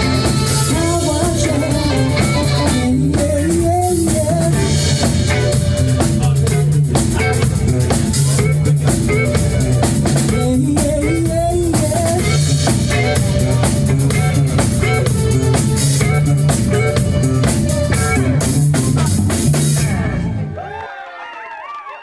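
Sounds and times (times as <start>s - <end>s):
live band playing: 0.0s - 20.8s
audience voices: 0.0s - 22.0s.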